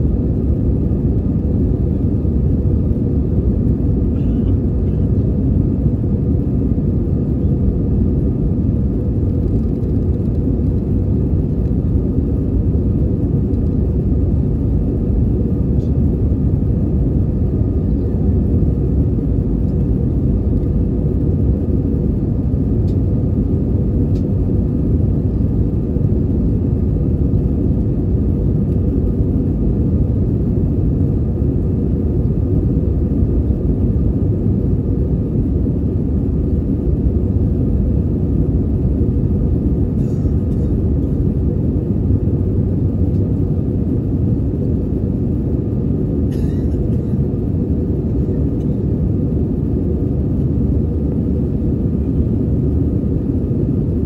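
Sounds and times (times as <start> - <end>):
airflow over fuselage: 0.0 - 54.0
faint steady whine: 0.0 - 54.0
jet engines rumbling: 0.0 - 54.0.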